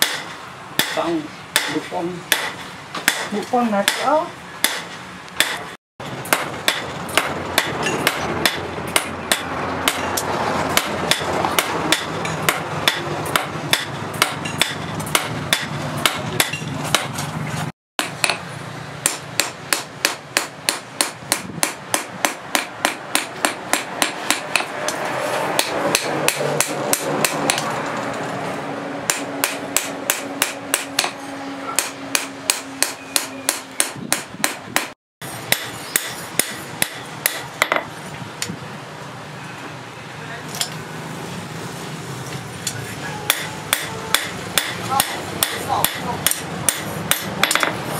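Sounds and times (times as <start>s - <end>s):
hammer striking metal on anvil: 0.0s - 17.2s, 18.0s - 27.7s, 29.0s - 37.9s, 43.2s - 47.9s.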